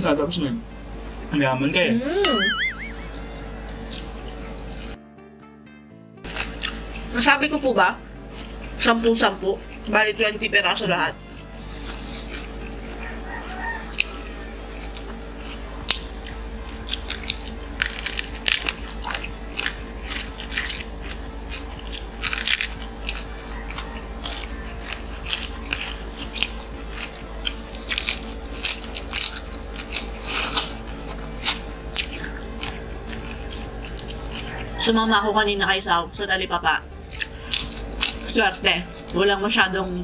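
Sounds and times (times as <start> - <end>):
steady low hum: 0.0 - 5.6, 6.2 - 40.0
crunchy chewing of fried chicken: 3.6 - 5.0, 6.2 - 36.0, 36.9 - 40.0.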